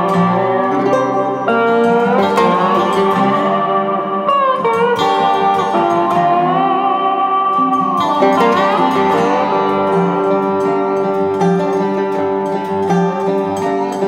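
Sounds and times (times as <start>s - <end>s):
guitar with sliding notes: 0.0s - 14.0s
held chords: 0.0s - 14.0s.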